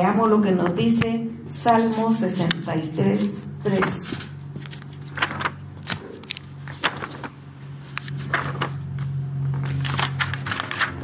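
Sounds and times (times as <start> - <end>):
steady low hum: 0.0 - 11.0
pages turning and rustling: 1.8 - 11.0.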